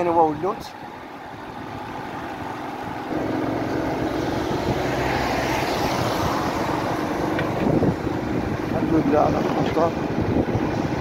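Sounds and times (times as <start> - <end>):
car engine hum: 0.8 - 11.0.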